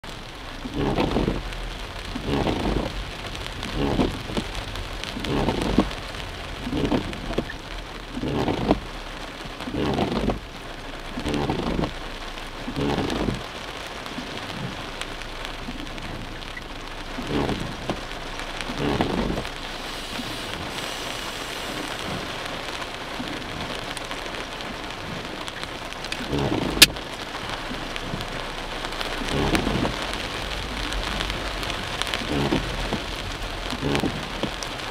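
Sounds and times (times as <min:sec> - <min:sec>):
heavy rain on car roof: 0:00.0 - 0:34.9
windshield wipers sweeping: 0:00.1 - 0:34.9.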